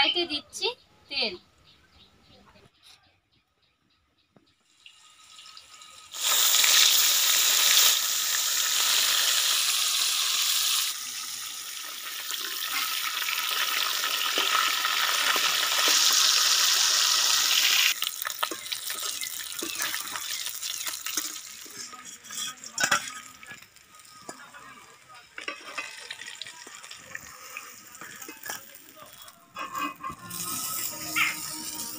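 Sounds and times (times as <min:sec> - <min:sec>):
fish sizzling in hot oil: 0:04.6 - 0:31.9.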